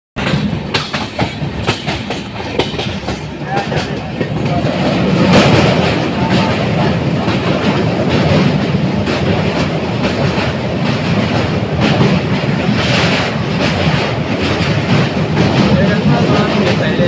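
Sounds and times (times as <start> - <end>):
train wheels rumbling on rails: 0.2 - 17.0.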